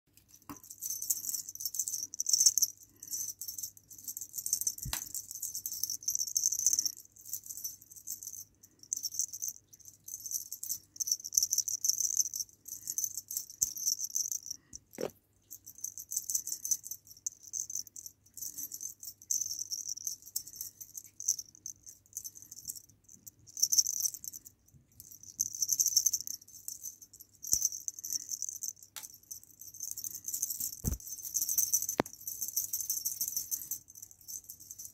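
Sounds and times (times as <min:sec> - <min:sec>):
rattle toy shaken: 0:00.2 - 0:34.9.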